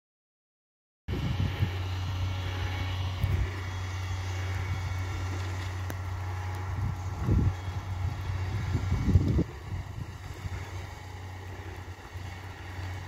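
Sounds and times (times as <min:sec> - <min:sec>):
diesel engines droning: 0:01.1 - 0:13.0.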